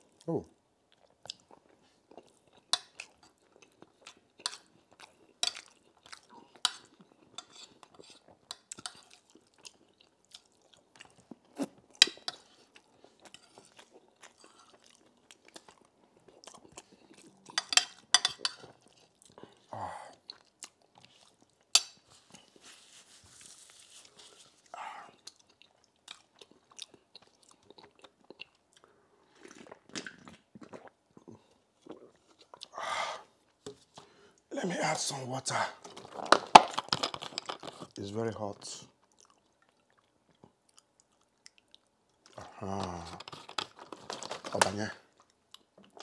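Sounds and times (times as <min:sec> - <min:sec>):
man chewing and eating: 0:00.0 - 0:34.5, 0:38.8 - 0:46.0.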